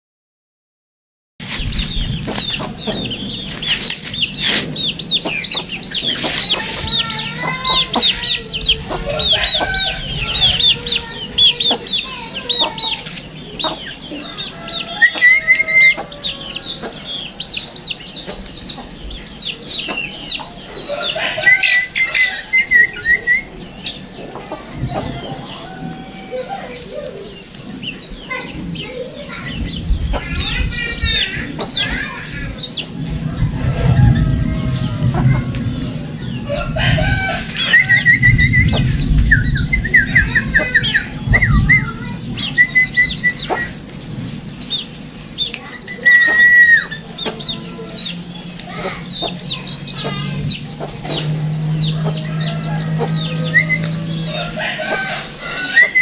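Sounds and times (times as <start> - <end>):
bird chirping and singing: 1.4 - 56.0.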